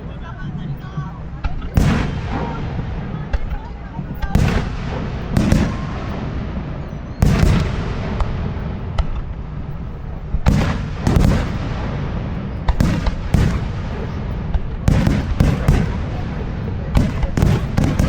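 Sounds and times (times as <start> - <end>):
rolling rumble: 0.0 - 18.0
firework shells bursting: 1.5 - 18.0.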